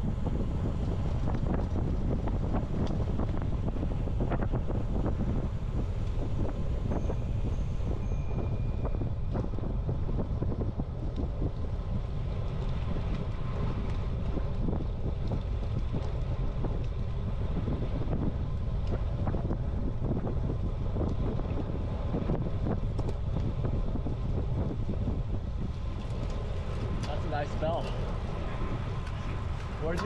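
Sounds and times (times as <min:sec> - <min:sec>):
bicycle tyre road noise: 0:00.0 - 0:30.0
wind buffeting microphone: 0:00.0 - 0:30.0.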